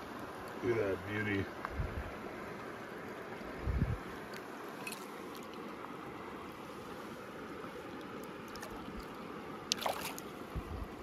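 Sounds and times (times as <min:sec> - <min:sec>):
river current over shallow water: 0:00.0 - 0:11.0.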